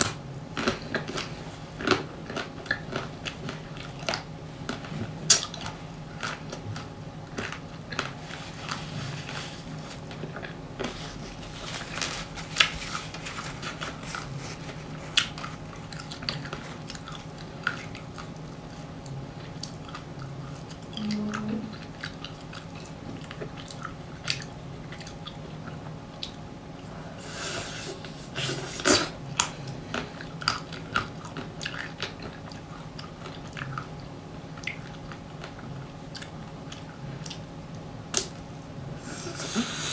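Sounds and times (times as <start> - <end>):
crunching and chewing: 0.0 - 27.2, 28.0 - 38.5.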